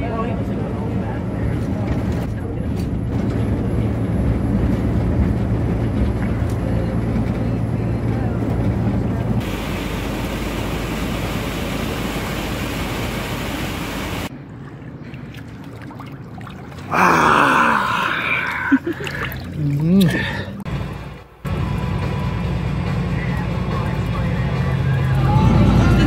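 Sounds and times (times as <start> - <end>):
truck engine and road noise: 0.0 - 18.1, 18.7 - 26.0.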